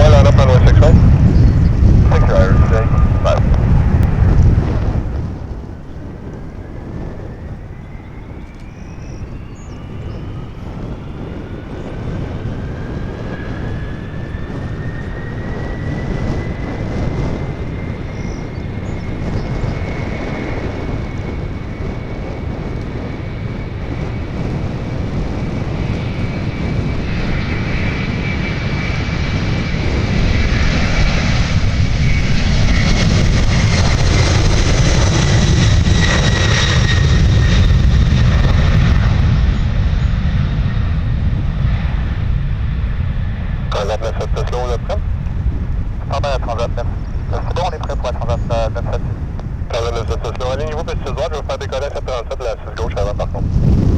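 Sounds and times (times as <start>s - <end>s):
low rumble: 0.0s - 18.2s, 25.5s - 53.9s
jet engines whining: 0.0s - 53.9s.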